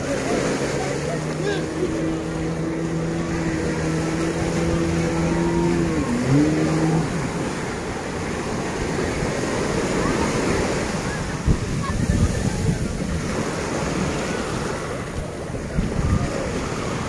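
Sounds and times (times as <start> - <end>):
motorboat engine running: 0.0 - 17.0
surf wash: 0.0 - 17.0.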